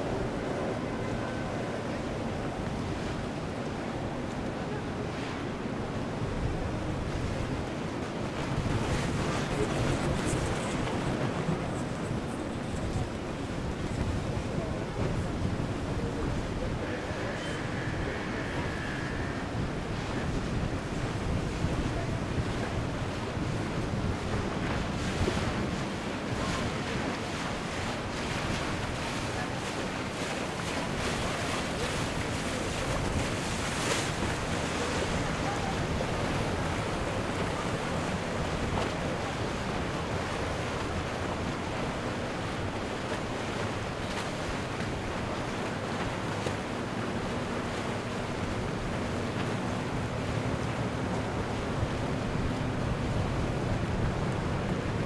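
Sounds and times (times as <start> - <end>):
water churning along hull: 0.0 - 55.0
wind on microphone: 0.0 - 55.0.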